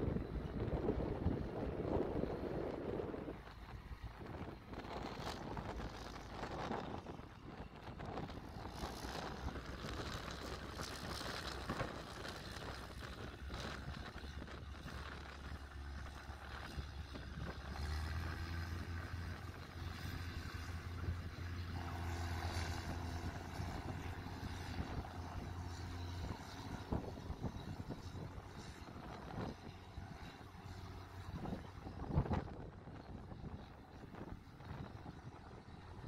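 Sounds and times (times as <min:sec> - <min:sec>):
tractor engine hum: 0:00.0 - 0:36.0.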